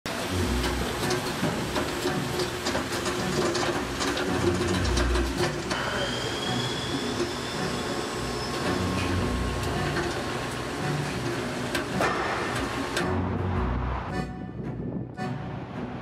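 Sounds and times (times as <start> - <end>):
machine steady mechanical hiss: 0.1 - 13.1.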